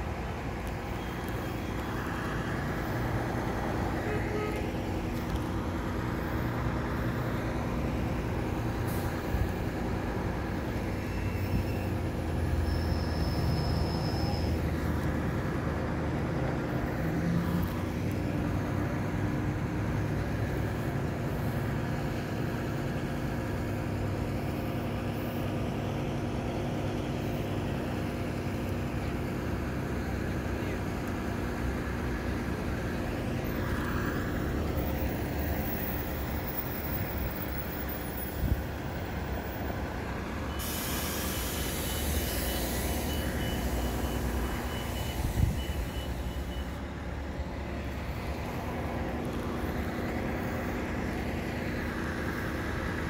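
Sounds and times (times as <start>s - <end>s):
large engine idling: 0.0s - 53.0s
street traffic noise: 0.0s - 53.0s.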